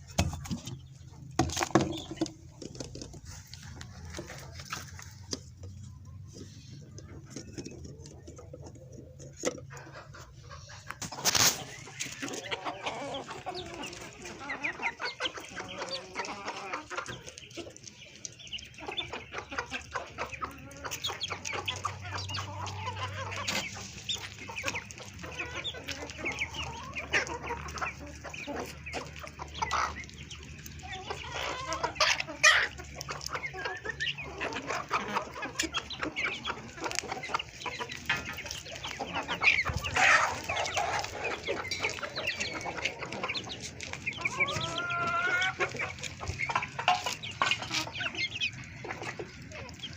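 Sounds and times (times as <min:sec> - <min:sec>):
chickens clucking: 0:00.0 - 0:49.9.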